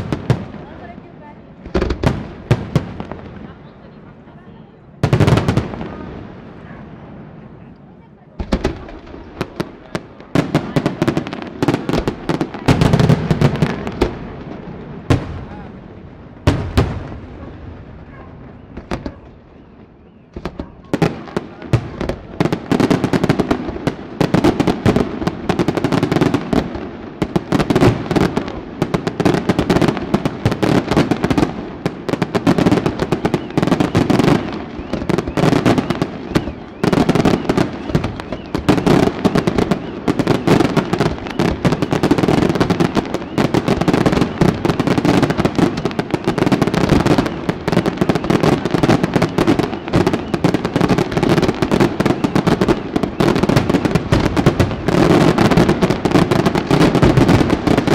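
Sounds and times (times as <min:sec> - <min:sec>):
fireworks bursts and bangs: 0:00.0 - 0:57.9
fireworks crackling: 0:00.0 - 0:57.9.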